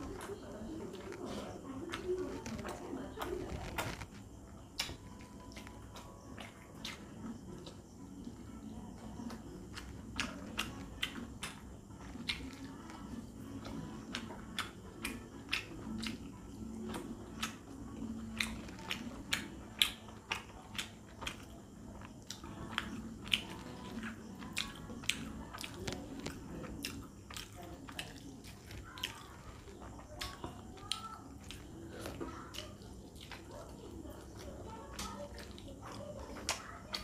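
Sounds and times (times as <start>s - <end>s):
wet chewing and lip-smacking: 0.0s - 37.0s.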